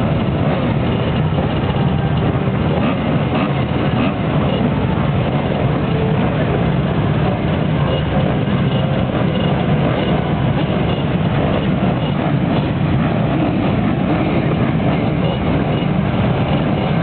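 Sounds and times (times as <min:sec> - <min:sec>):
motocross bike engines droning: 0:00.0 - 0:17.0.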